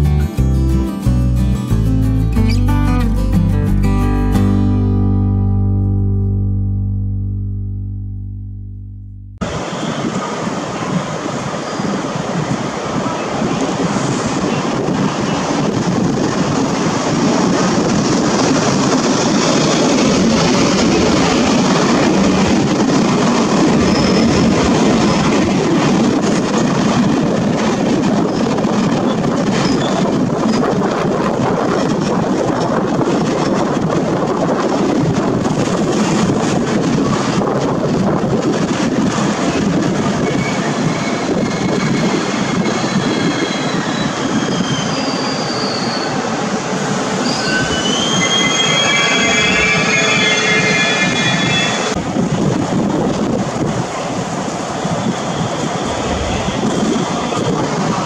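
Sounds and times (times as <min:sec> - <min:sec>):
train wheels rumbling on rail: 0:09.4 - 0:58.0.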